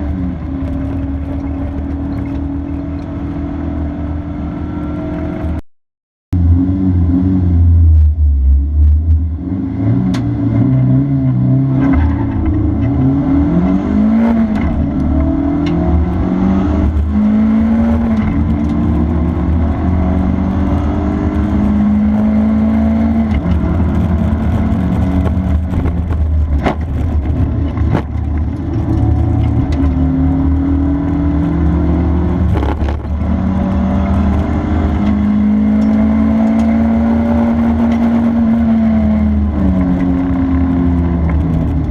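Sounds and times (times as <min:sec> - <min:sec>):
car engine at full throttle: 0:00.0 - 0:05.6, 0:06.3 - 0:41.9.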